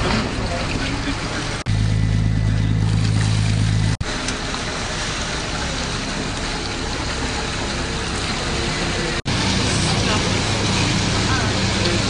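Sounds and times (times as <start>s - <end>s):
boat engine hum: 0.0s - 12.0s
engine and water rushing: 0.0s - 12.0s.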